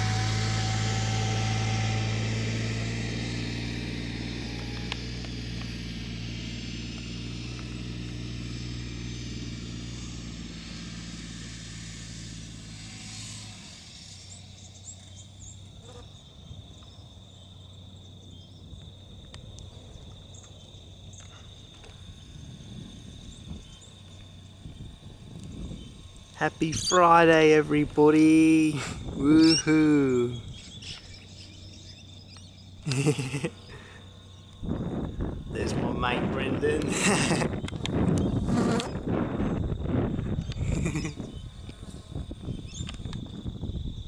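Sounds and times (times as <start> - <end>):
high insect drone: 0.0 - 44.0
low machine hum: 0.0 - 44.0.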